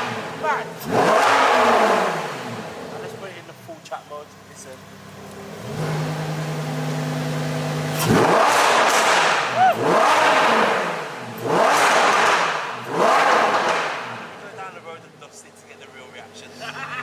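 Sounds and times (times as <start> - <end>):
exhaust crack: 0.0 - 6.5, 7.6 - 17.0
sports car engine idling and revving: 0.0 - 17.0.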